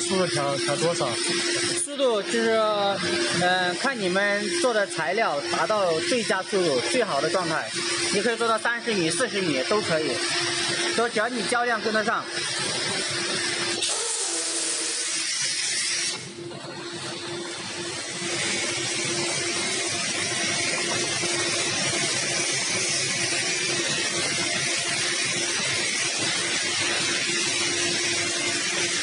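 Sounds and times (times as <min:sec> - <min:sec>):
coating machine hissing and humming: 0:00.0 - 0:29.0.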